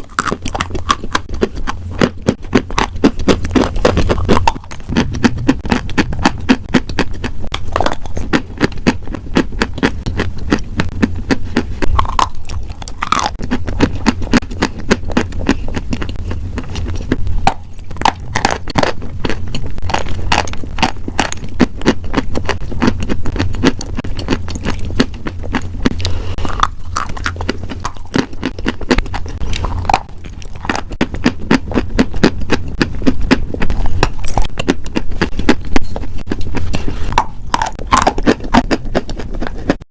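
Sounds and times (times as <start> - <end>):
chewing crunchy food: 0.0 - 39.8.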